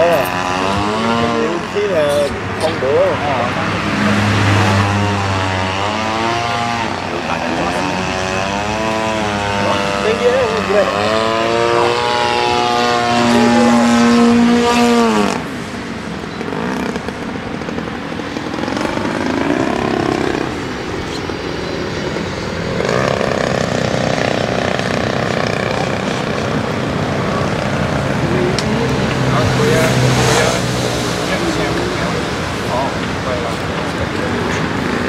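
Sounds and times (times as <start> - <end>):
model airplane engine passing: 0.0 - 35.0.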